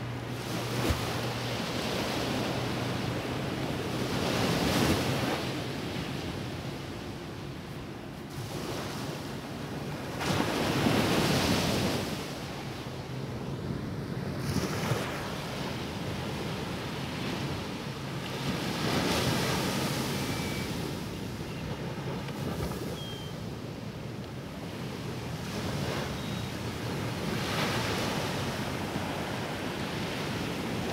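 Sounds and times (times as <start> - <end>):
waves washing up a beach: 0.0 - 30.9.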